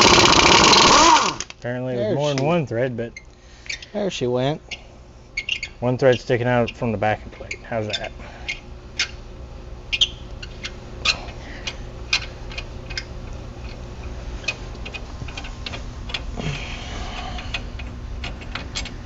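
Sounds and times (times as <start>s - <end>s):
low hum: 2.6s - 19.0s.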